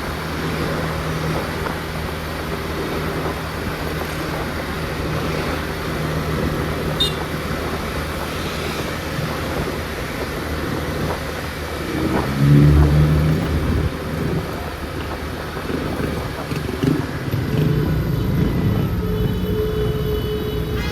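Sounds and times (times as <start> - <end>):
wind rumble on microphone: 0.0 - 19.3
engine revving: 0.0 - 20.9
low engine hum: 0.0 - 20.9.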